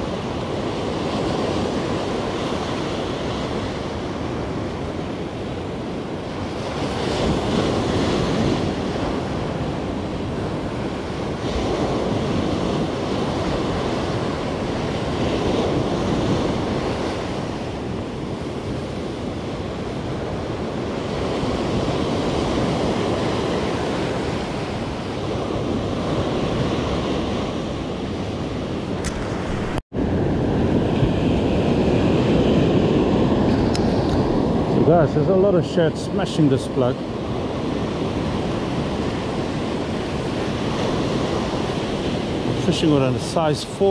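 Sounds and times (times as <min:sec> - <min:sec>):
surf breaking on beach: 0:00.0 - 0:43.9
wind buffeting microphone: 0:00.0 - 0:43.9.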